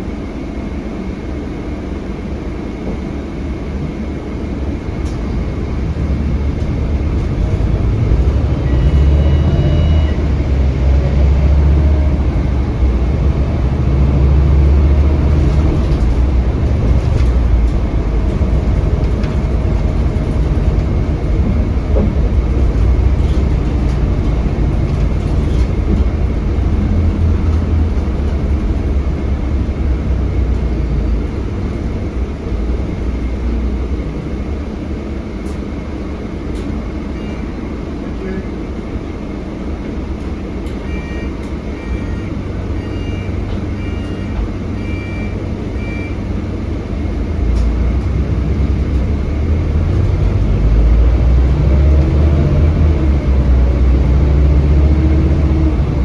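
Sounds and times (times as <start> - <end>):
diesel bus engine rumble: 0.0 - 56.0
road noise: 1.2 - 56.0.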